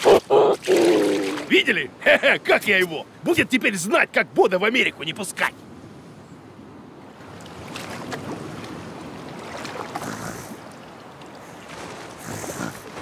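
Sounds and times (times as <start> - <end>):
wind and waves: 0.0 - 13.0.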